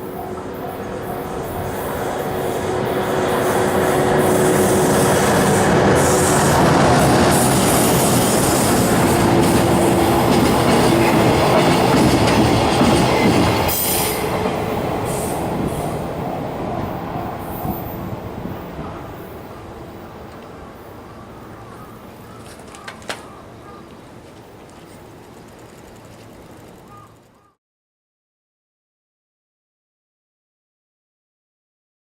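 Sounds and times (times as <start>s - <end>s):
train wheels rumbling on rails: 0.0s - 27.4s.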